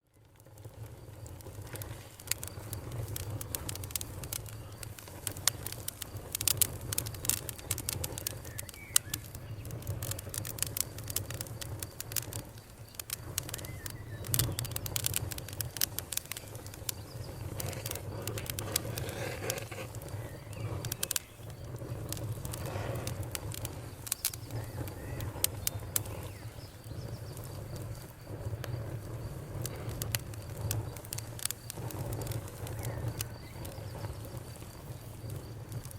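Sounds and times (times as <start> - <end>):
low rumble of burning fire: 0.0 - 35.9
wood snapping and popping: 0.3 - 35.9.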